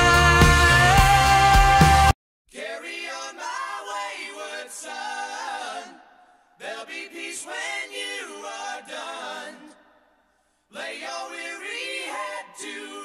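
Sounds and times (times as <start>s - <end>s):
unaccompanied vocal harmony singing: 0.0s - 13.0s.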